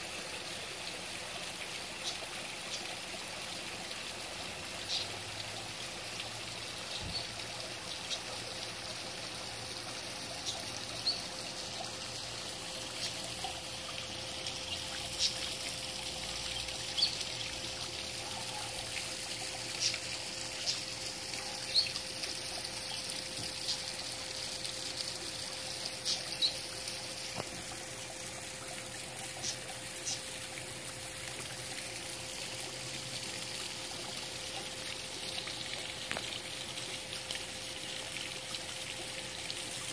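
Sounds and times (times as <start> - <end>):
small waterfall splashing into pond: 0.0 - 39.9.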